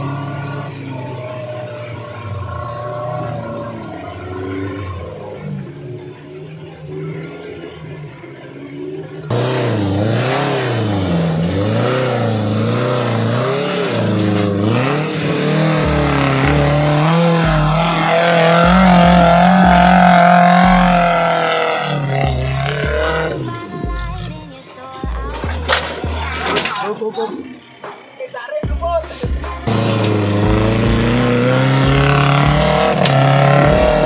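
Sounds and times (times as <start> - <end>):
off-road engine revving: 0.0 - 28.1, 28.7 - 34.0
quieter engine: 0.0 - 34.0.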